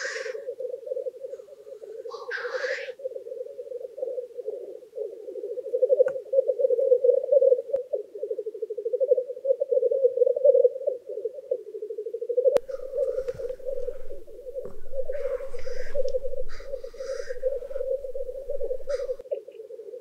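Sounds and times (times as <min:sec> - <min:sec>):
black grouse bubbling song: 0:00.0 - 0:20.0.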